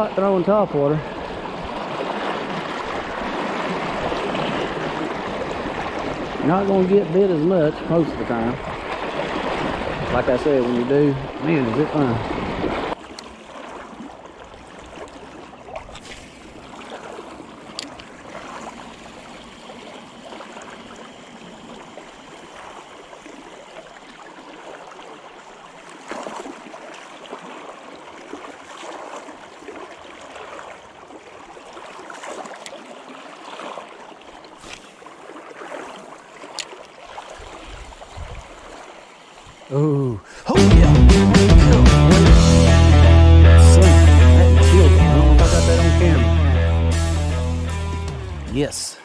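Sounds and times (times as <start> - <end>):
river current flowing: 0.0 - 49.0.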